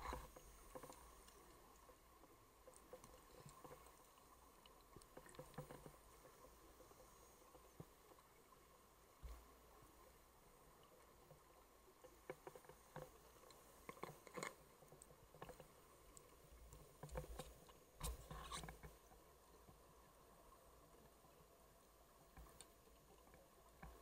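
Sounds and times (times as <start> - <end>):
faint underwater clicks and crackles: 0.0 - 24.0.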